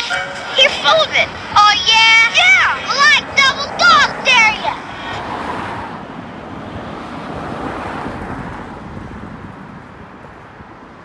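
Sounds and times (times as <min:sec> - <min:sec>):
car passing: 0:00.0 - 0:11.0
wind buffeting microphone: 0:00.6 - 0:11.0.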